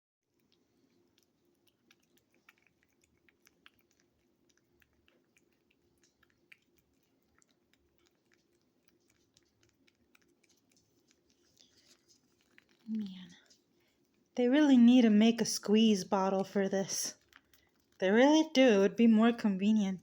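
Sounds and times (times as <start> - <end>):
cat licking wet clicks: 0.3 - 14.4, 15.0 - 19.0.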